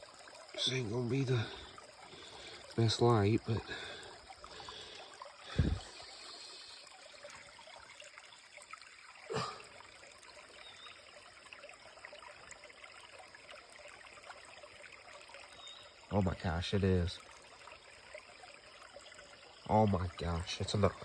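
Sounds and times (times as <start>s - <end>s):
creek water trickling: 0.0s - 21.0s.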